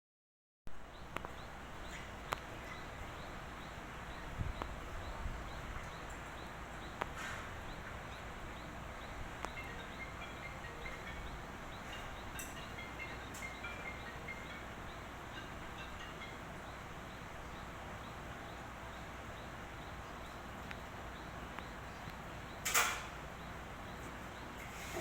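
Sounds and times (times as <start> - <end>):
small birds chirping: 0.8 - 25.0.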